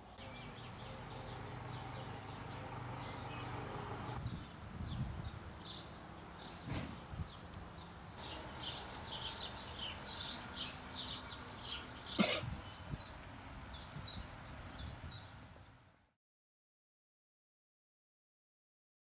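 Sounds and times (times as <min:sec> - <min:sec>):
small birds chirping: 0:00.0 - 0:16.1
low outdoor background noise: 0:00.0 - 0:16.2.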